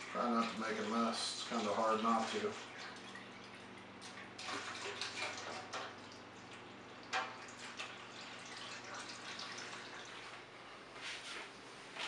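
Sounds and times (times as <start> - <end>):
liquid splashing and trickling: 0.0 - 10.5.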